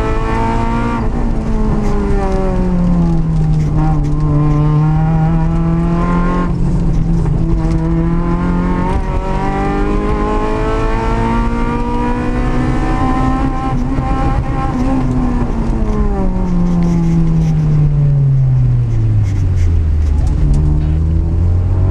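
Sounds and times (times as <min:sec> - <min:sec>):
car engine revving in cabin: 0:00.0 - 0:21.9.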